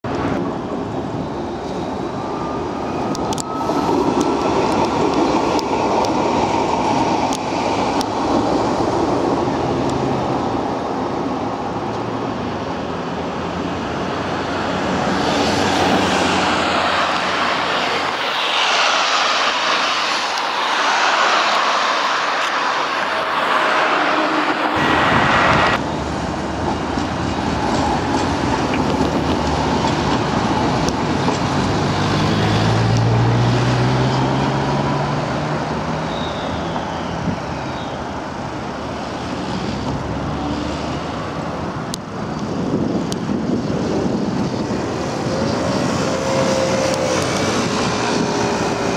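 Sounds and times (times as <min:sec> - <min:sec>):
electric trams running on track: 0:00.0 - 0:48.9
road traffic: 0:00.0 - 0:48.9
wind noise: 0:00.0 - 0:48.9.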